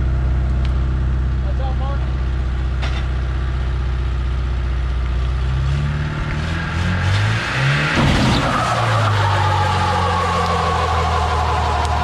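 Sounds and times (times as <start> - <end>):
truck engine idling and revving: 0.0 - 12.0.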